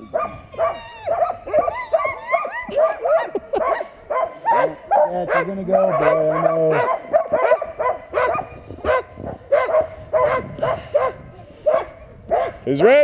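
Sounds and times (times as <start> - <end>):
sled dogs barking and yipping: 0.0 - 13.0.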